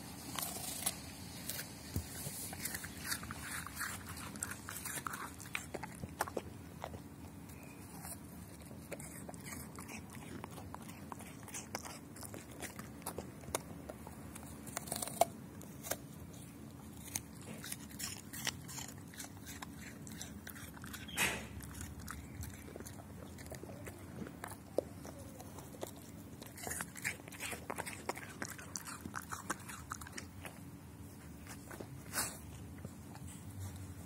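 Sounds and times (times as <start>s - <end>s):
dog crunching an apple: 0.0s - 34.0s.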